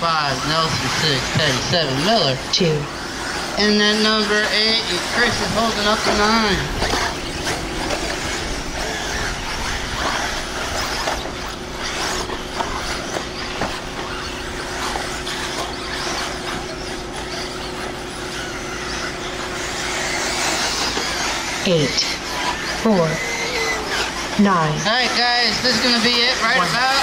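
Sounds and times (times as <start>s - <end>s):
electric motors whining: 0.0s - 27.0s
steady low hum: 0.0s - 27.0s
tyres rushing on dirt: 0.0s - 27.0s.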